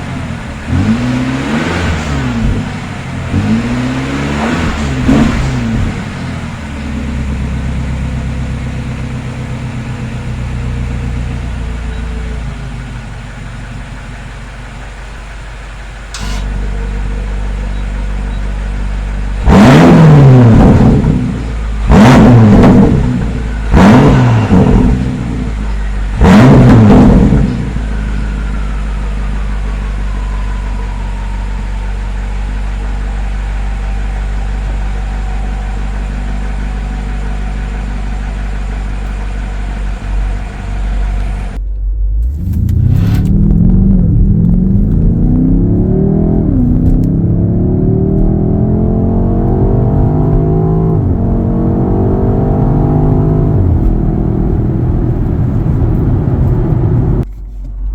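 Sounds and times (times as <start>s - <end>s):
car engine revving: 0.0s - 57.3s
car engine idling: 0.0s - 57.9s.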